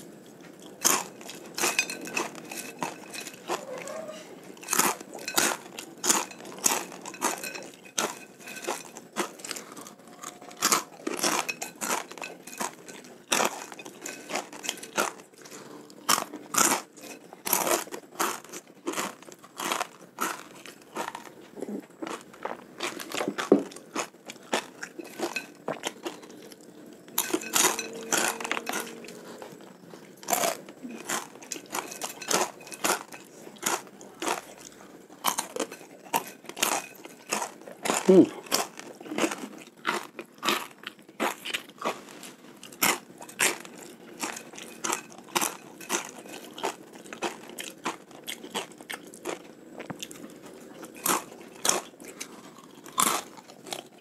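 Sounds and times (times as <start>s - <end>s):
crunching and chewing snack: 0.0s - 54.0s.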